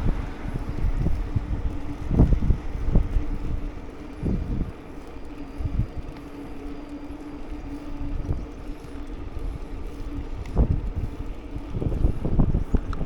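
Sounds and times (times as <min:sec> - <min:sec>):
wind buffeting microphone: 0:00.0 - 0:06.2, 0:07.5 - 0:13.0
motor scooter humming: 0:00.0 - 0:13.0.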